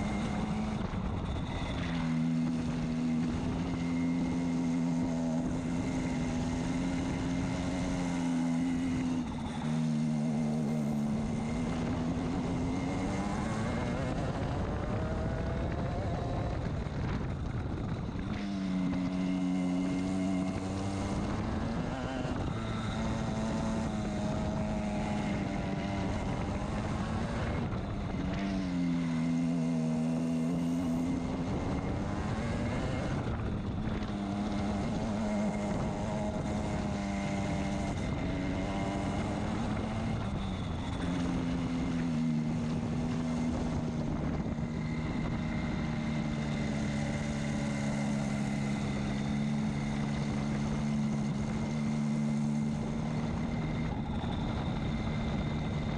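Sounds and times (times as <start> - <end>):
racing kart engine: 0.0 - 55.9.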